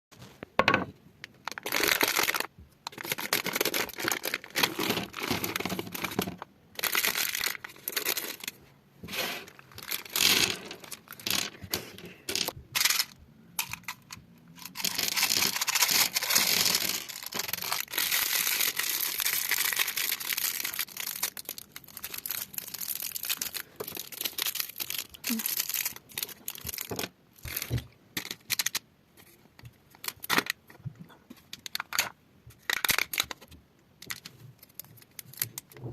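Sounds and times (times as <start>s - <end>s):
sweet wrappers crinkling and tearing: 1.3s - 8.6s, 9.4s - 28.8s, 29.9s - 30.8s, 31.4s - 35.8s.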